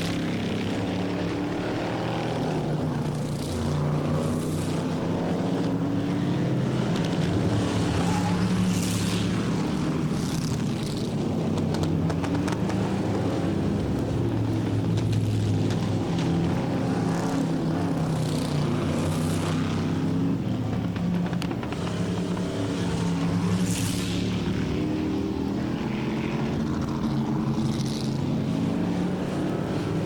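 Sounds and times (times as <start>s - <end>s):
racing car engines: 0.0s - 30.0s.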